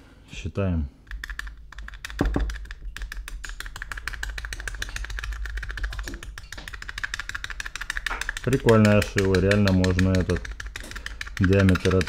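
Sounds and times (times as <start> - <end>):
awl clicking through foil: 1.1 - 12.0.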